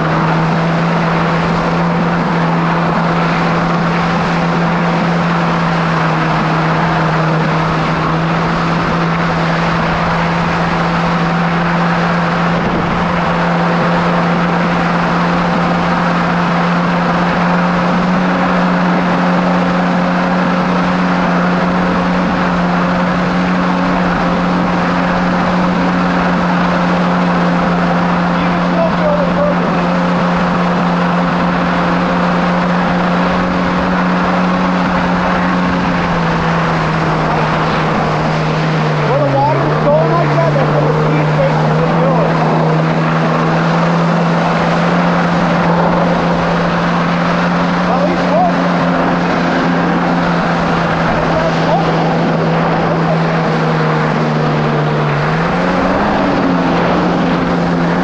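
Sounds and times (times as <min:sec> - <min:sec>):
jet ski engine running: 0:00.0 - 0:58.0
rush of wind and water spray: 0:00.0 - 0:58.0.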